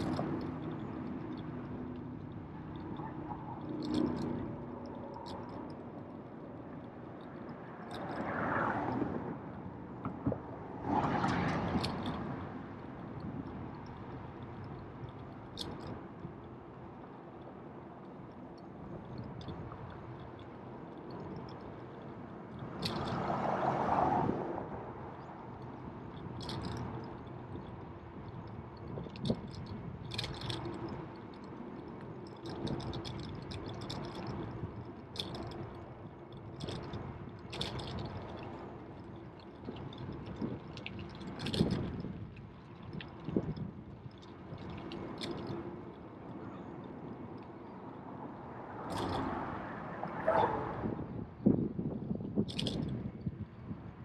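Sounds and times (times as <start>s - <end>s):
bicycle clicks and rattles: 0.0s - 54.0s
bicycle rolling and wind noise: 0.0s - 54.0s.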